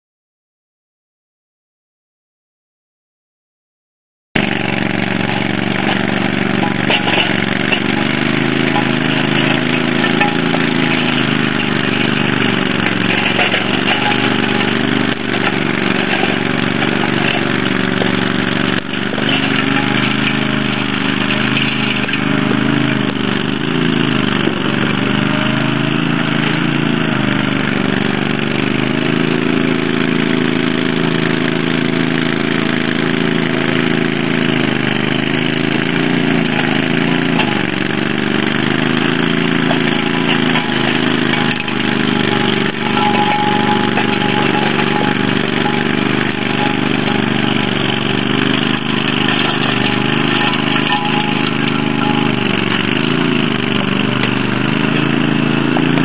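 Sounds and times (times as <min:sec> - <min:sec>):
power rake engine running: 0:04.4 - 0:56.0.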